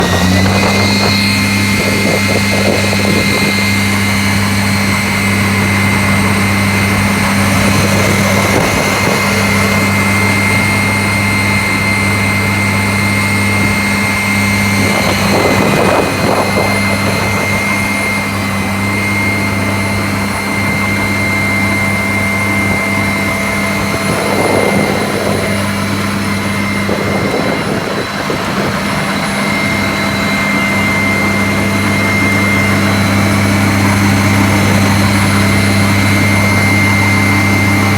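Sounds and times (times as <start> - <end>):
grinding of asphalt: 0.0 - 37.9
high whine: 0.0 - 37.9
road milling machine engine drone: 0.0 - 37.9.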